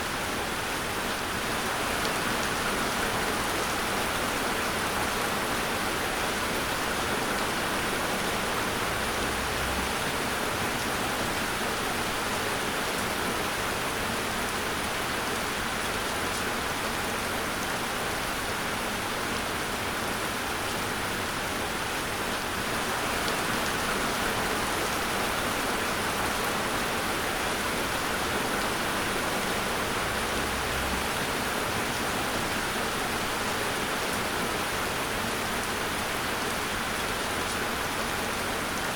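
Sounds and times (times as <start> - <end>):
heavy rain on hard surface: 0.0 - 38.9.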